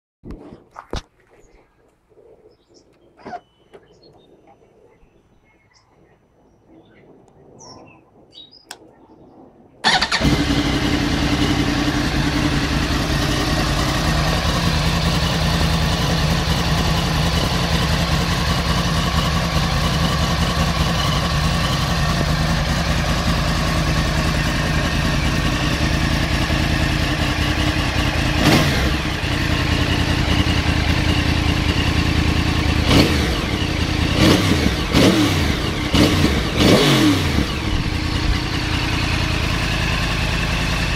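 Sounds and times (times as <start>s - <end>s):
motorcycle engine idling and revving: 0.3s - 5.0s, 9.8s - 40.9s.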